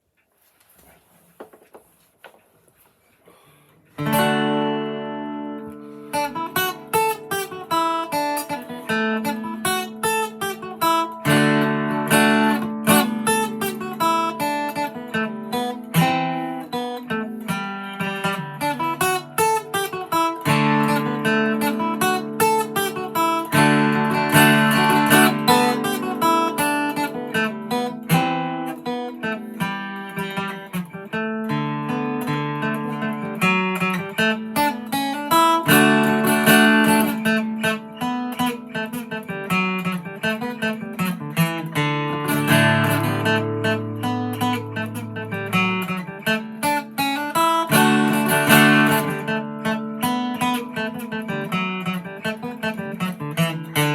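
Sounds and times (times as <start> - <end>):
acoustic guitar fiddle tune: 4.0 - 53.9.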